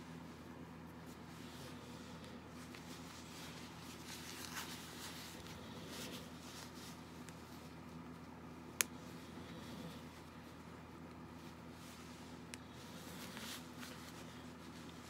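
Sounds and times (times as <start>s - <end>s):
rustling of baby clothes: 0.0s - 8.4s, 10.1s - 15.0s.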